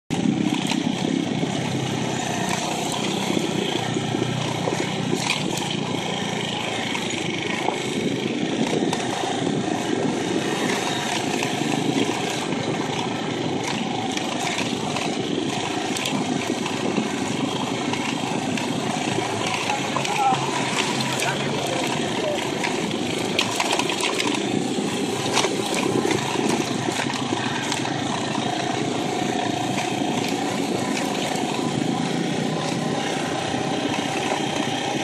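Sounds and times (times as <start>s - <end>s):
motorcycle engine running: 0.1s - 35.0s
road and wind noise: 0.1s - 35.0s.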